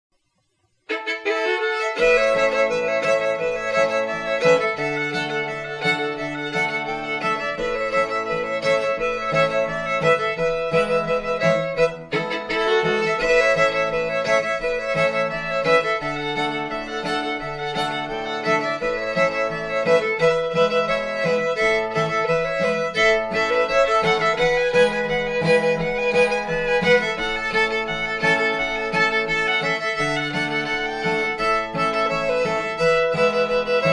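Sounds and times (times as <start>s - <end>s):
fiddle tune: 0.6s - 33.9s
rhythmic accompaniment: 0.6s - 33.9s.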